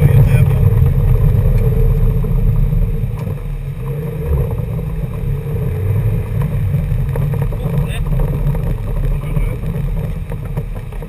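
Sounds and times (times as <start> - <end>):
car driving on dirt road: 0.0 - 11.0.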